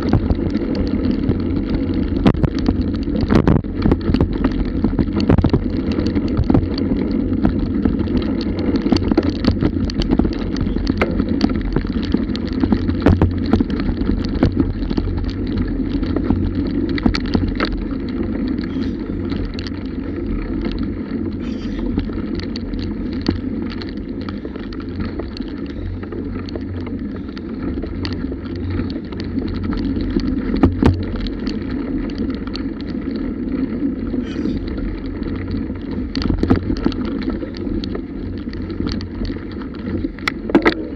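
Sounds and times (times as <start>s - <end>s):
bicycle rattling over bumps: 0.0s - 40.9s
bicycle tyres rumbling on dirt: 0.0s - 40.9s.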